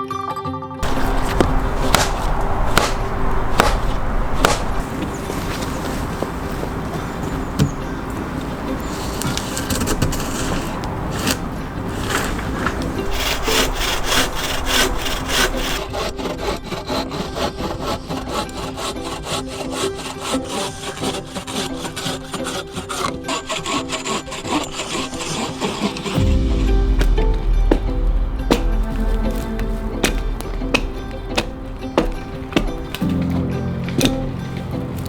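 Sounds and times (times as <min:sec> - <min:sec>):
hand saw cutting wood: 0:00.8 - 0:35.0.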